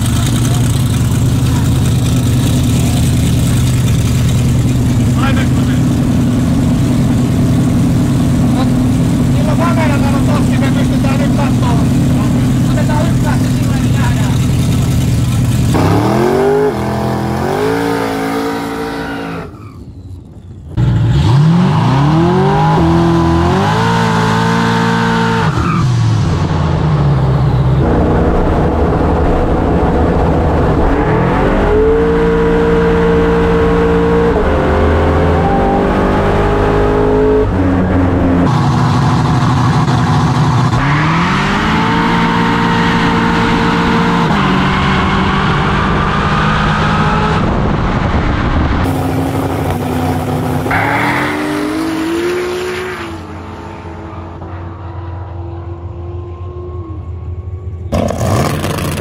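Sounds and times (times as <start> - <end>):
race car engine accelerating: 0.0 - 19.8, 20.7 - 59.0.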